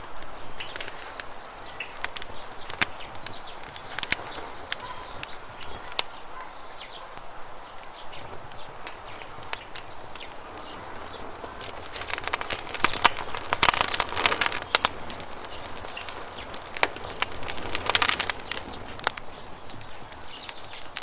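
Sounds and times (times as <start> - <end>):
campfire crackling and popping: 0.0 - 21.0
small birds chirping: 0.0 - 21.0.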